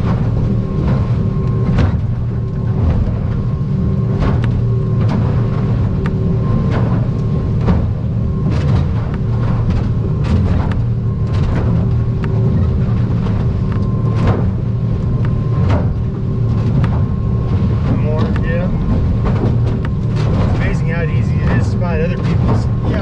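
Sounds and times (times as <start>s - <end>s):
hull knocking and splashing: 0.0s - 23.0s
outboard engine drone: 0.0s - 23.0s.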